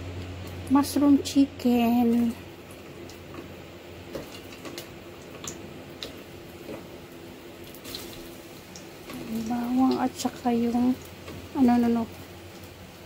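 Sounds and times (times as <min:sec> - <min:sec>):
shallots crackling in oil: 0:00.0 - 0:13.0.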